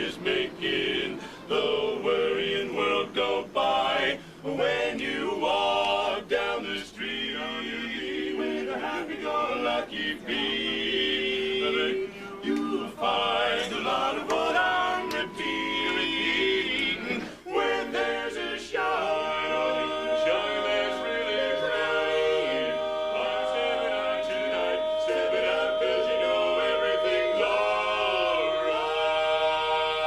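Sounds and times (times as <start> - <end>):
male quartet singing a cappella: 0.0 - 30.0.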